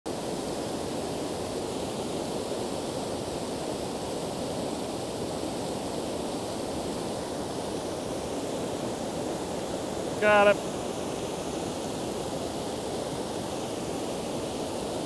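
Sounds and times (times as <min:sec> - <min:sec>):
waterfall and rapids rushing: 0:00.1 - 0:15.0.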